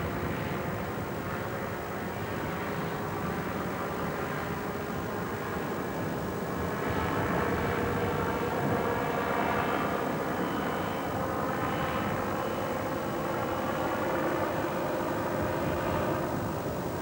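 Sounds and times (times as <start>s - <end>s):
small engine droning: 0.0s - 17.0s.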